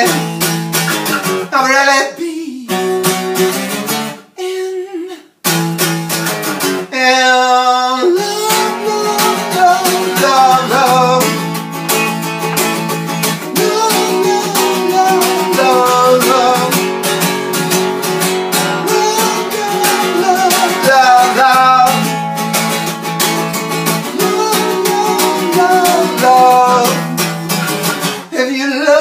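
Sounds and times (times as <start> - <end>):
acoustic guitar strumming: 0.0 - 2.1, 2.7 - 4.3, 5.4 - 29.0.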